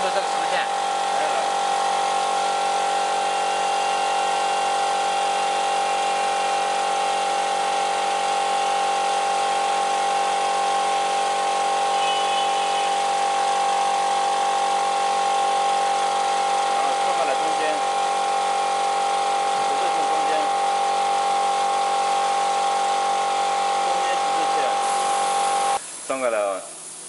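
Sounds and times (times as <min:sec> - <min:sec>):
machine hum with whine: 0:00.0 - 0:25.8.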